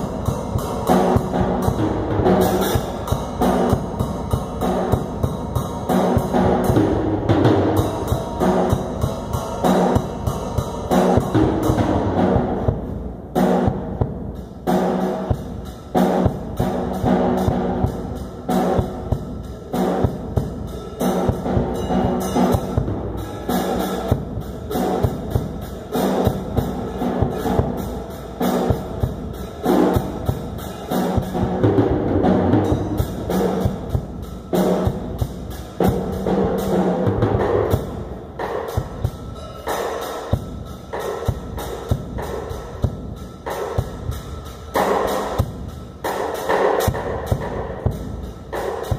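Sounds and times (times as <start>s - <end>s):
drum kit rhythm: 0.0s - 48.9s.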